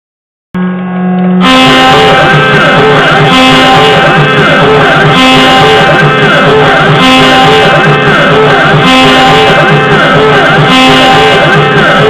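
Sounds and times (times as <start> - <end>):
low drone: 0.6 - 12.0.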